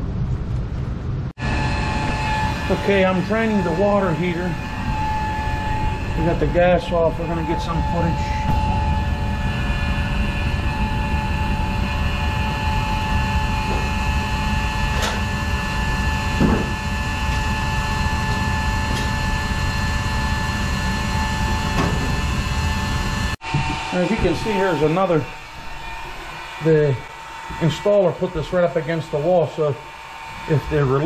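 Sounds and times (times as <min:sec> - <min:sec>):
motor running with whine: 0:01.4 - 0:31.0.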